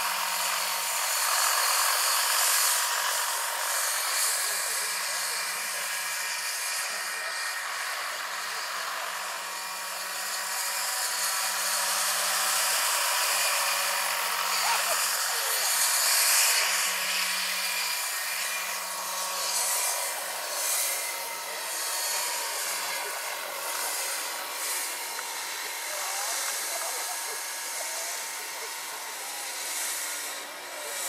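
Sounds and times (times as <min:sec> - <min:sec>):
electric drive whine: 0:00.0 - 0:31.0.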